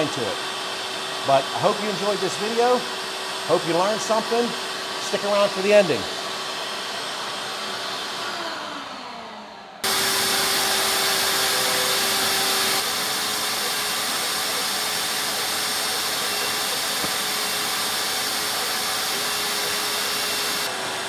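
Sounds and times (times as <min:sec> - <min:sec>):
vacuum suction motor hissing: 0:00.0 - 0:21.0.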